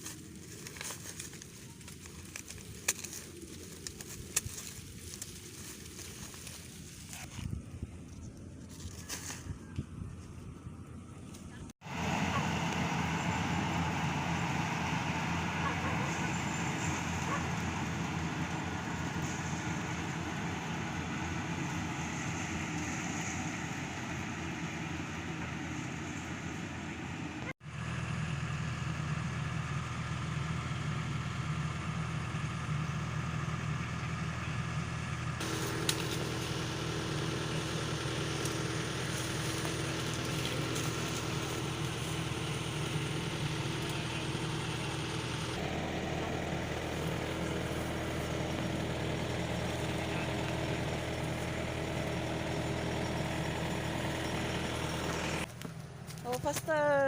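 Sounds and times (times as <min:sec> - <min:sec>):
harvester engine running: 0:00.0 - 0:57.0.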